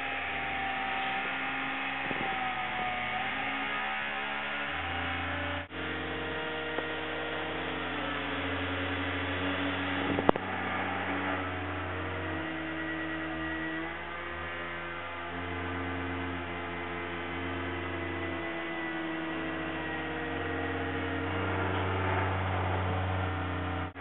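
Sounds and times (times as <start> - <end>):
small electric motors humming: 0.0 - 24.0.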